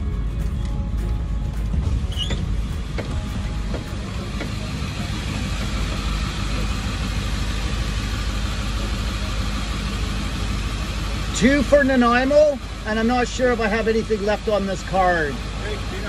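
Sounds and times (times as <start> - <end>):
van engine rumbling: 0.0 - 16.0.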